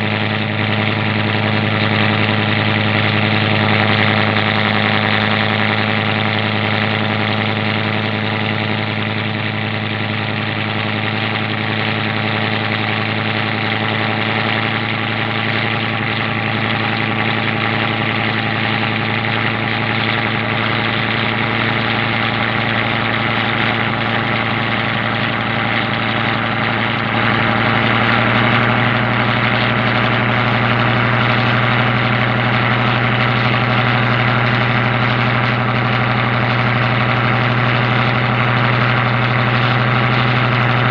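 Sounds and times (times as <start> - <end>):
boat engine humming: 0.0 - 40.9.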